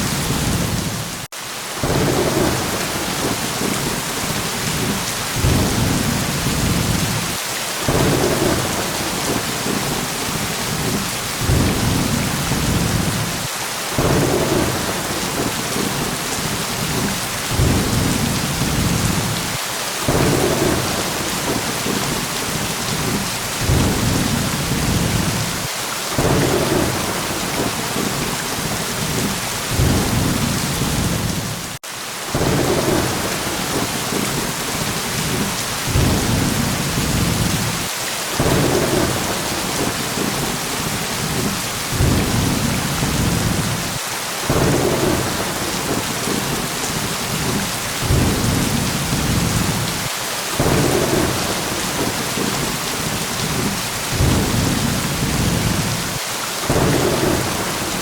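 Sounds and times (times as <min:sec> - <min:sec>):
heavy rain: 0:00.0 - 0:58.0
low rolling thunder: 0:01.8 - 0:07.3, 0:07.9 - 0:31.7, 0:32.4 - 0:34.4, 0:35.1 - 0:37.8, 0:38.4 - 0:46.6, 0:47.2 - 0:50.0, 0:50.6 - 0:58.0.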